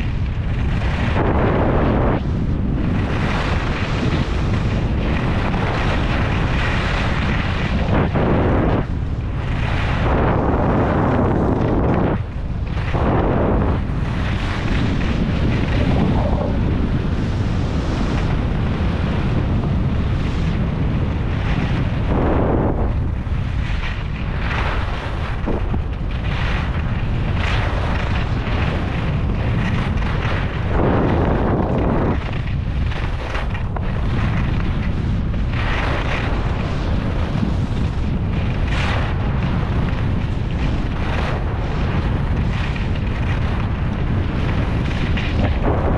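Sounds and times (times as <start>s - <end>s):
skis scraping on packed snow: 0.0s - 45.9s
wind buffeting microphone: 0.0s - 45.9s.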